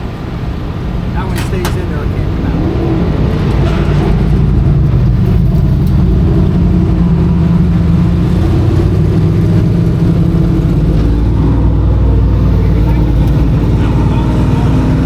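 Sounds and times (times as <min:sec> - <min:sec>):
race car engines running: 0:00.0 - 0:15.0.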